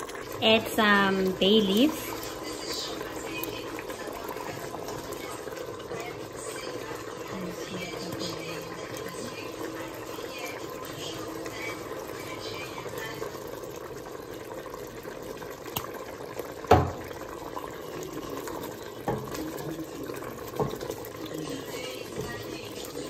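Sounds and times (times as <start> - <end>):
curry simmering in a pot: 0.0 - 23.0.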